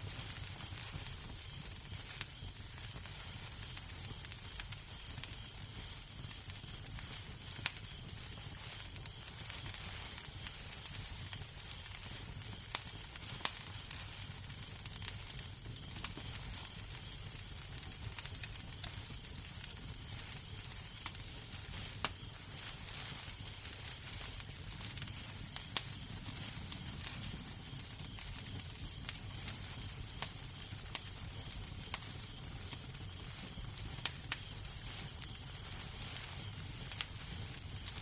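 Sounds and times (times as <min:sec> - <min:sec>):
sharp pops of fire: 0:00.0 - 0:38.0
wood fire crackling: 0:00.0 - 0:38.0.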